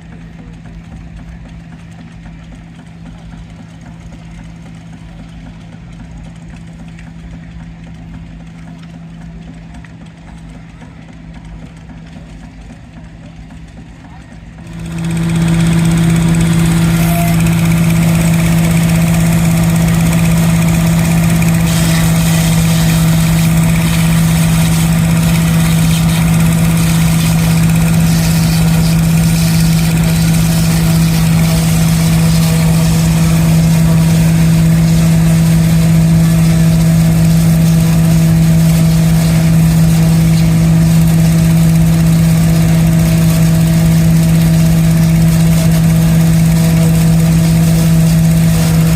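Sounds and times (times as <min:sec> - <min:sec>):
engine humming steadily: 0:00.0 - 0:48.9.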